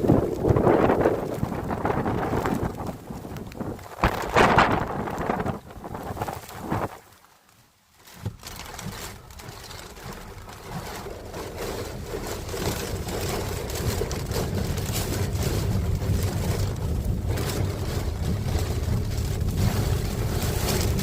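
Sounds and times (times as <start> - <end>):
wind rumbling on microphone: 0.0 - 7.3, 8.0 - 21.0
heavy rain: 0.0 - 21.0.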